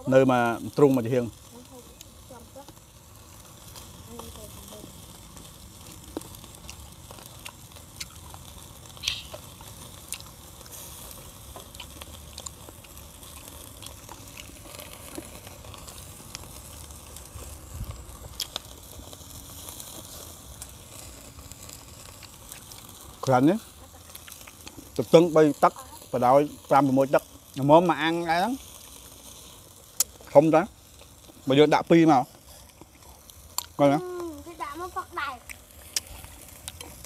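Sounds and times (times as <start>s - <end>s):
fire crackling: 0.0s - 37.0s
food sizzling: 0.0s - 37.0s.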